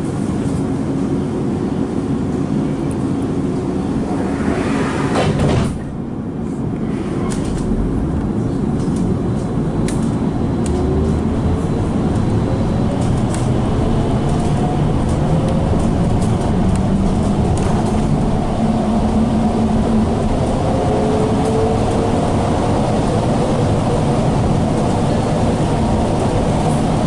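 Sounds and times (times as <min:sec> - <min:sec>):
low rumble of bus: 0:00.0 - 0:27.0.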